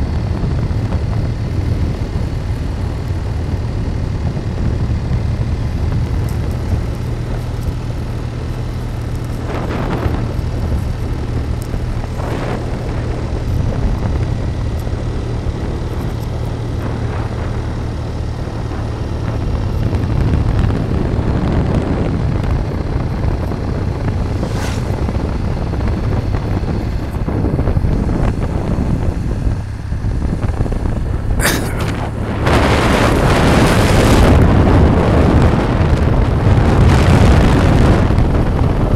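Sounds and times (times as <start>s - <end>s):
road and wind noise: 0.0s - 38.9s
vehicle engine rumble: 0.0s - 38.9s
wind buffeting microphone: 0.0s - 38.9s.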